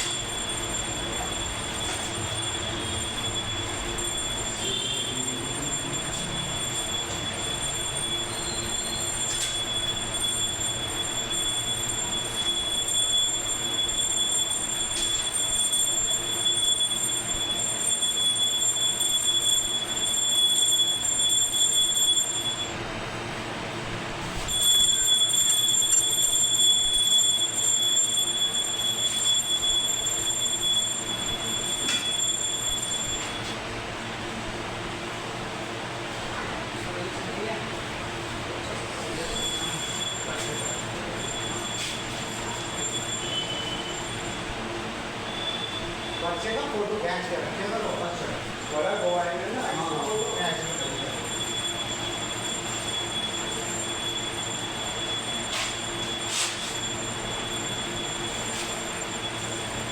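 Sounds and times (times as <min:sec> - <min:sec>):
machine high-pitched whine: 0:00.0 - 0:59.9.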